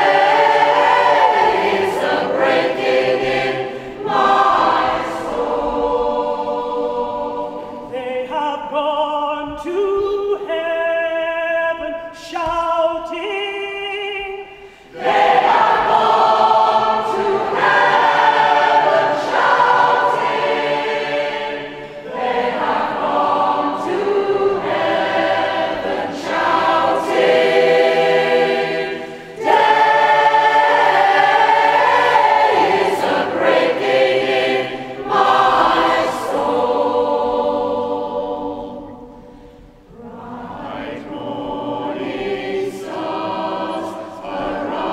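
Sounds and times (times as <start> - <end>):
mixed choir singing a cappella: 0.0 - 11.2, 12.5 - 44.9.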